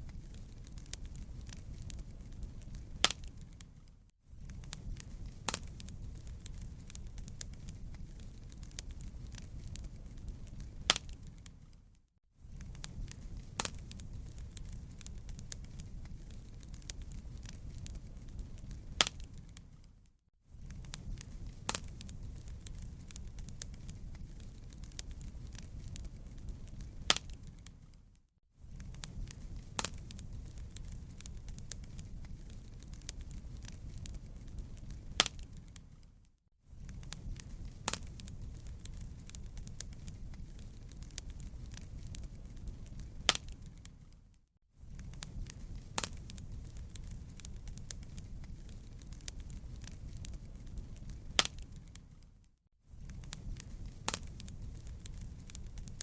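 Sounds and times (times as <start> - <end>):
fire popping: 0.0 - 56.0
wood fire crackling: 0.0 - 56.0.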